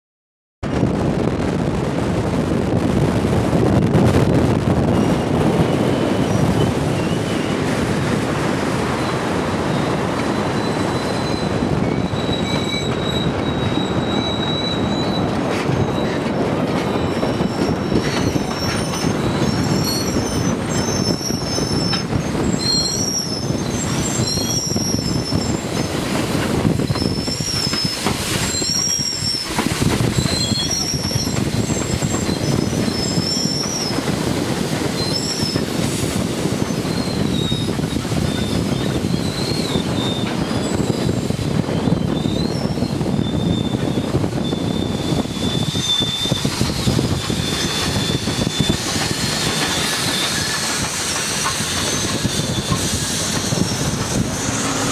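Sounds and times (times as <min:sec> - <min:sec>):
train coaches rumbling past: 0:00.6 - 0:54.9
wheels squealing: 0:09.0 - 0:54.9.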